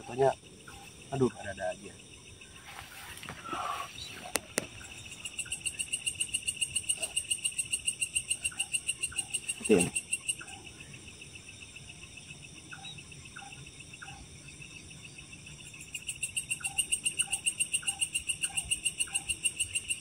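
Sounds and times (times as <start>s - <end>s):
night insects chirping: 0.0s - 20.0s
pulsing insect trill: 0.0s - 20.0s.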